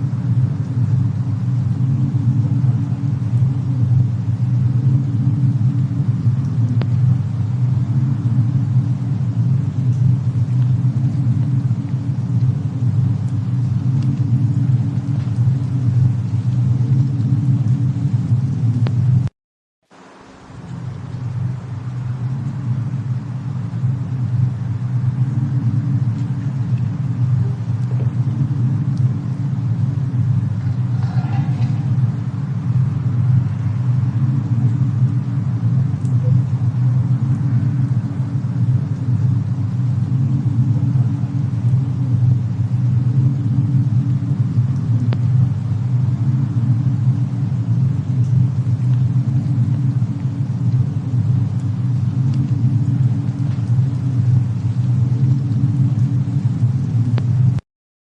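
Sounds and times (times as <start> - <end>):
burning wood crackles: 0.0 - 19.3, 20.0 - 57.6
low rumble: 0.0 - 19.3, 20.3 - 57.6.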